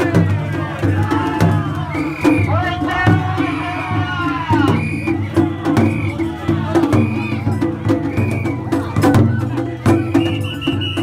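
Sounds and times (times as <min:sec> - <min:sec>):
festival drums beating: 0:00.0 - 0:11.0.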